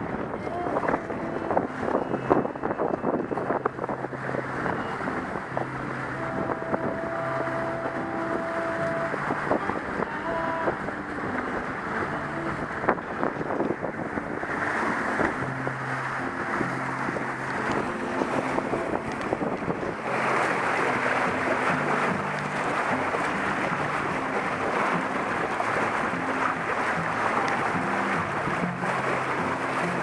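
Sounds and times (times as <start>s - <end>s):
water rushing along hull: 0.0s - 30.0s
wind buffeting microphone: 0.0s - 30.0s.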